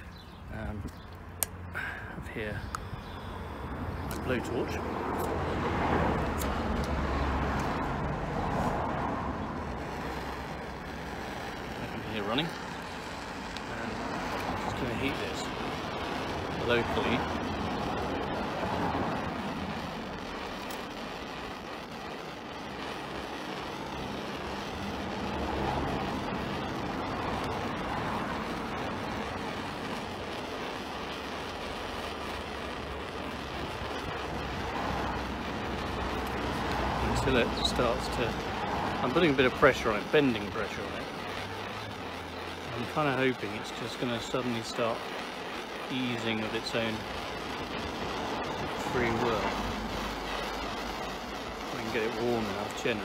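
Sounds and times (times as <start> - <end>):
blowtorch flame rushing: 0.0 - 53.0.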